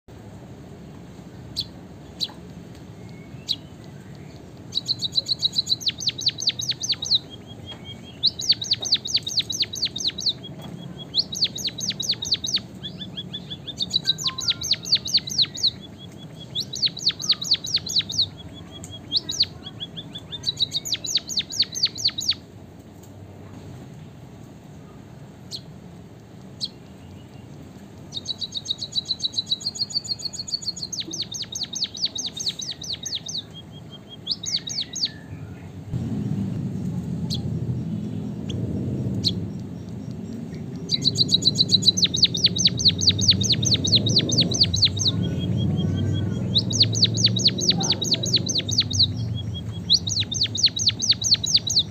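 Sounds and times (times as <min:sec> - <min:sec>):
bird rapid high chirps: 0:01.5 - 0:22.4, 0:26.5 - 0:35.6, 0:37.2 - 0:51.9.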